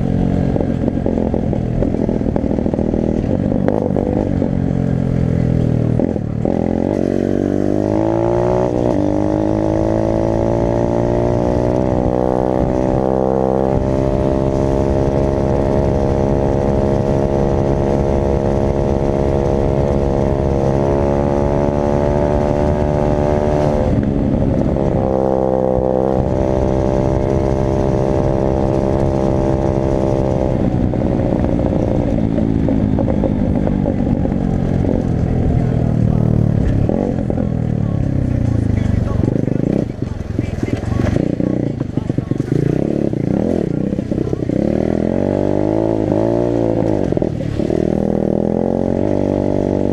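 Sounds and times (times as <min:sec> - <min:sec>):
dirt bike engine revving: 0:00.0 - 0:34.0, 0:34.6 - 0:49.9.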